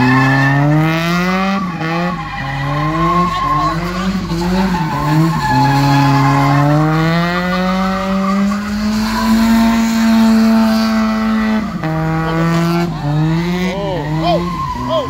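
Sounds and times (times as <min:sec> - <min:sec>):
car engine revving hard: 0:00.0 - 0:15.0
tires squealing: 0:00.0 - 0:15.0.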